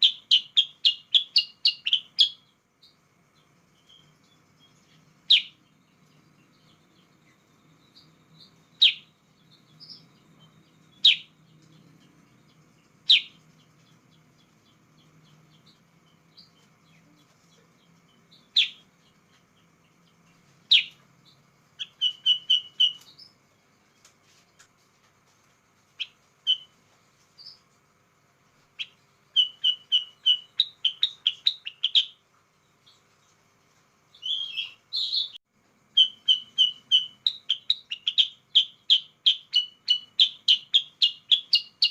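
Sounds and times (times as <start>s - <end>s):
bulbul calling: 0.0s - 23.4s, 26.0s - 26.8s, 28.8s - 32.2s, 34.2s - 41.9s
rapid bird chirps: 0.0s - 41.9s.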